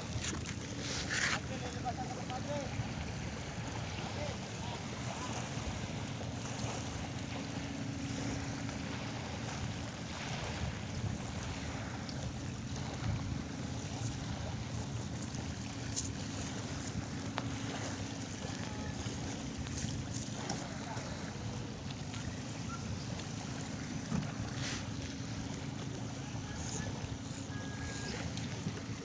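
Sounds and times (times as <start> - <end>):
surf: 0.0 - 29.0.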